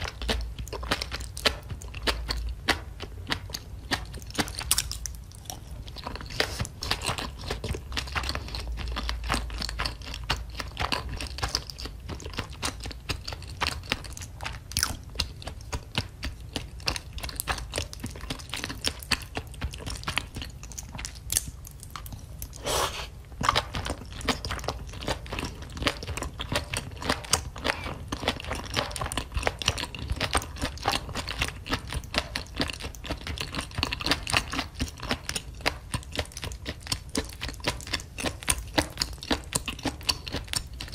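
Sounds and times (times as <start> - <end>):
wet chewing and mouth smacks: 0.0 - 40.9.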